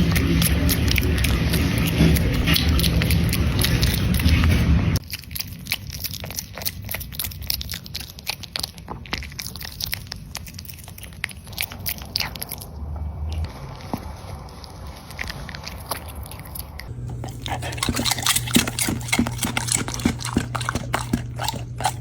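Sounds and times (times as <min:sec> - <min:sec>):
dog crunching dry food: 0:00.0 - 0:04.4, 0:05.0 - 0:13.5, 0:14.9 - 0:22.0.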